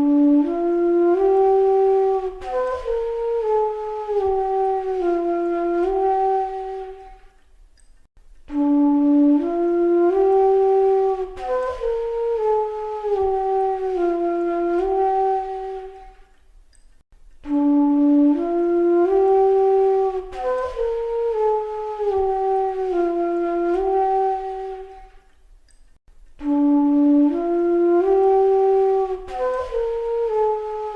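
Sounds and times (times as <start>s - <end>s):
slow flute-like melody: 0.0s - 7.5s, 8.4s - 16.5s, 17.3s - 25.4s, 26.3s - 30.9s.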